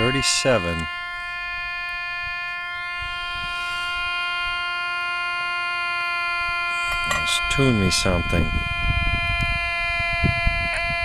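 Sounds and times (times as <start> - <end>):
buzzy electronic tone from radio: 0.0 - 11.0.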